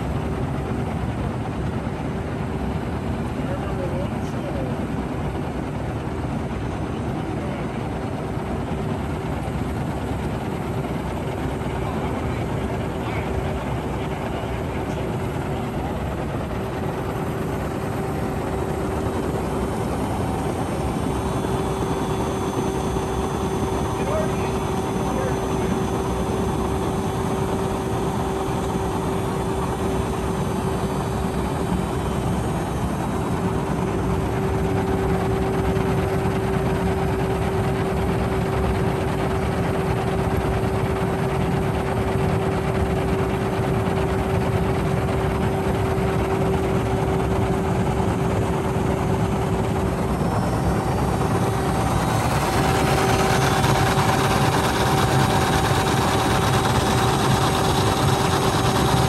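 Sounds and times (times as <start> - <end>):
steady motor hum: 0.0 - 59.0.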